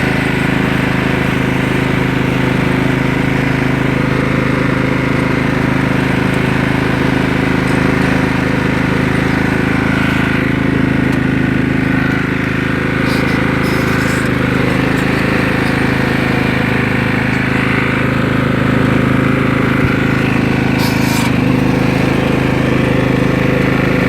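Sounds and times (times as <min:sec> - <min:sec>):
riding lawn mower engine running: 0:00.0 - 0:24.0.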